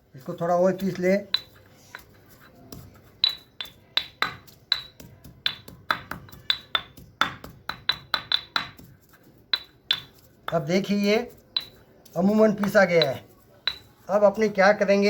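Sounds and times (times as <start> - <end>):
pestle striking in a mortar: 0.4 - 14.8.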